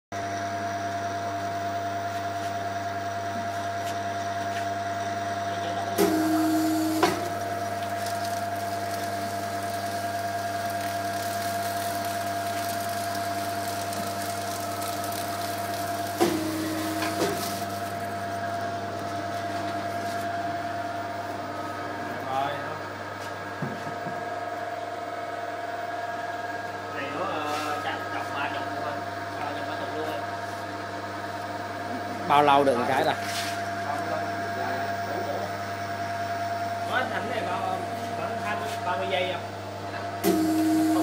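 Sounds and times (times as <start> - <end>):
louder lower machine hum: 0.2 - 41.0
printing machine humming: 4.1 - 41.0.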